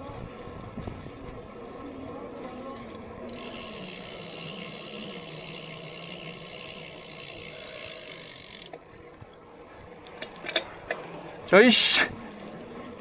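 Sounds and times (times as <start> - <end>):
motor vehicle humming: 0.0 - 11.5.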